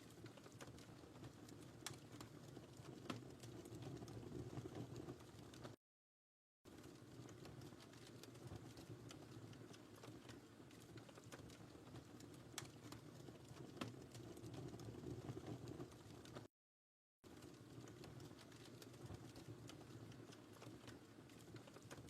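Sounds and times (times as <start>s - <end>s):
wood fire crackling and popping: 0.0s - 5.8s, 6.7s - 16.5s, 17.3s - 22.0s.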